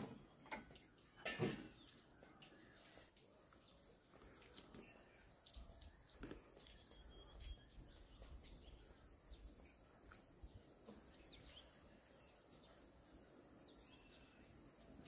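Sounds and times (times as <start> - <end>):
faint bird chirps: 0.1 - 15.0.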